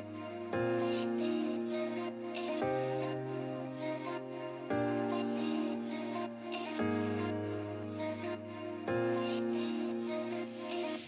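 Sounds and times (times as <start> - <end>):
soft music of sustained chords: 0.0 - 11.0.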